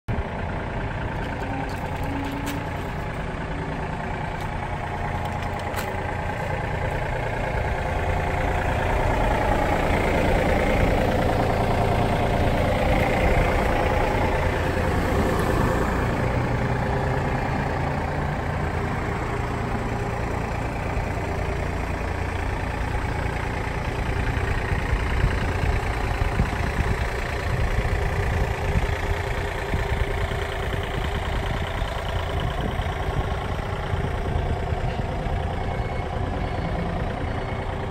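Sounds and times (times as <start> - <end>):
diesel engine idling: 0.1 - 37.9.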